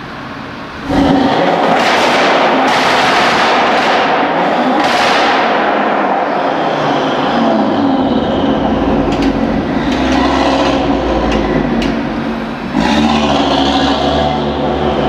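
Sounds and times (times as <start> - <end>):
car engine running hard: 0.0 - 15.0
sharp exhaust cracks: 0.8 - 15.0.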